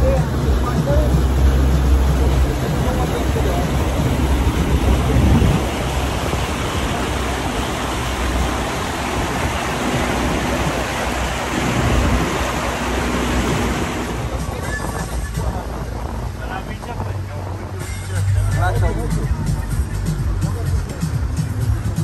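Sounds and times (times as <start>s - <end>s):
wind buffeting microphone: 0.0s - 19.6s
water rushing past boat: 0.0s - 22.0s.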